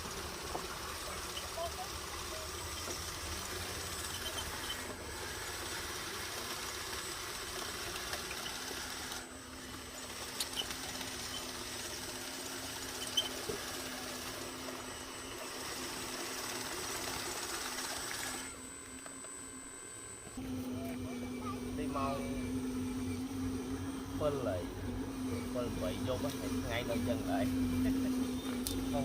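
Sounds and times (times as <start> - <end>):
electric motors whirring: 0.0 - 29.0.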